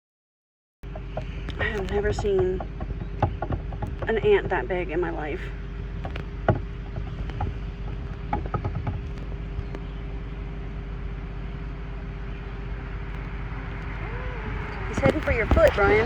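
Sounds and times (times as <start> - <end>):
low mechanical hum: 0.8 - 16.0
faint clicks: 0.9 - 4.7, 5.3 - 10.5, 11.1 - 16.0.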